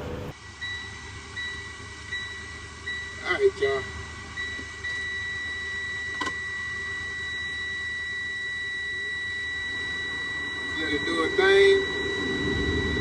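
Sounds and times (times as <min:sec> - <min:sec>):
low hum: 0:00.0 - 0:13.0
warning buzzer long high beep: 0:00.5 - 0:13.0.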